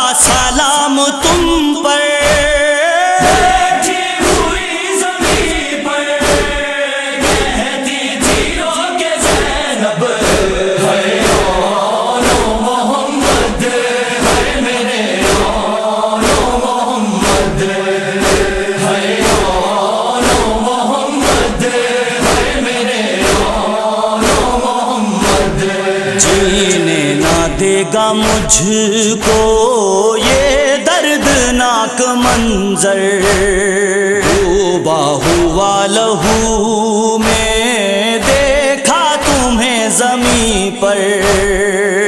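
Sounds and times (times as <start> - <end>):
male chorus chanting: 0.0 - 42.0
sharp steady beat: 0.2 - 41.8.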